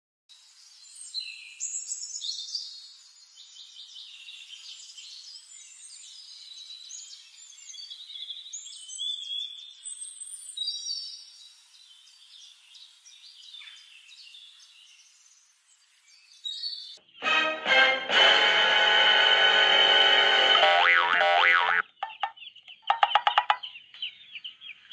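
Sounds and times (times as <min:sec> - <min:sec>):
songbirds chirping and singing: 0:00.4 - 0:24.9.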